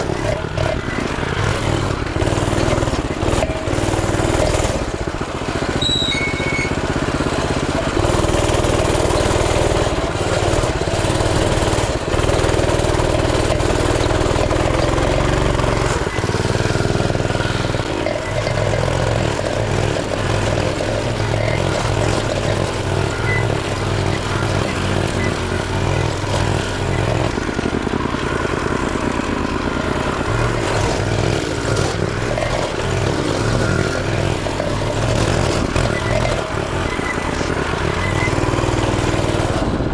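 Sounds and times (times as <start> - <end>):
mini bike engine running: 0.0 - 39.9.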